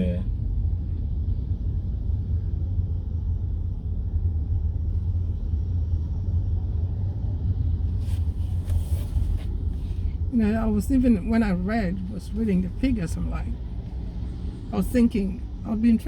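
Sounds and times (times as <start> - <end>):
car driving interior rumble: 0.0 - 16.0.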